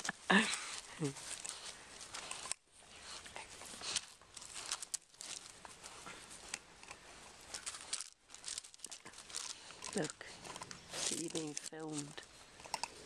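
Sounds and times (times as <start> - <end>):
gravel crunching under paws: 0.0 - 13.0.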